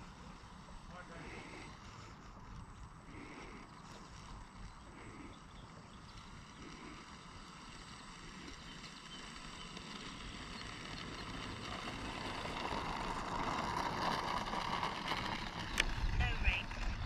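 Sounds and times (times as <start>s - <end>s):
electric model plane motor whirring: 0.0s - 17.0s.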